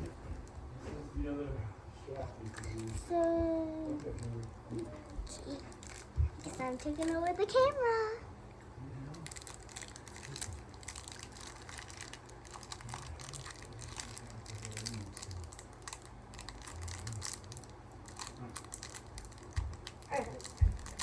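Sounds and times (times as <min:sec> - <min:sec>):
crinkling: 0:02.4 - 0:07.8, 0:09.0 - 0:21.0.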